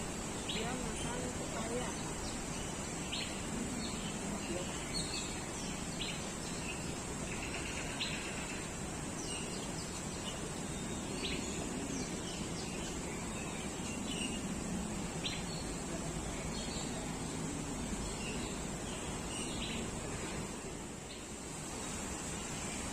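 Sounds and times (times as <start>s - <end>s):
high-pitched hiss: 0.0s - 22.9s
small birds chirping: 0.0s - 22.9s.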